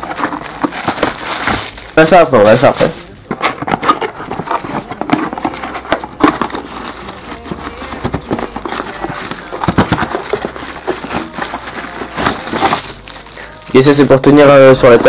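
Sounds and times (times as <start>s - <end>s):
cardboard box rustling and scraping: 0.0s - 15.0s.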